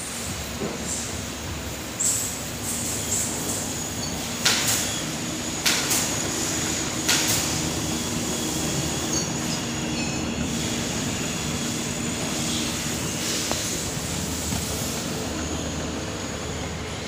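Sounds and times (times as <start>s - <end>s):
printing press mechanical hum: 0.0s - 17.0s.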